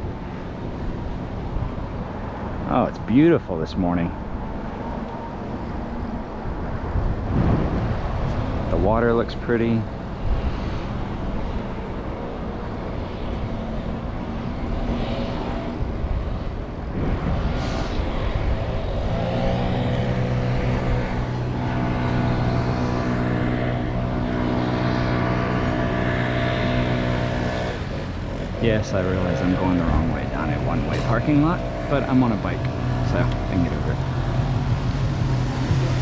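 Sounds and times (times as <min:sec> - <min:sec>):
steady engine hum: 0:00.0 - 0:36.0
wind rumble on microphone: 0:00.0 - 0:36.0.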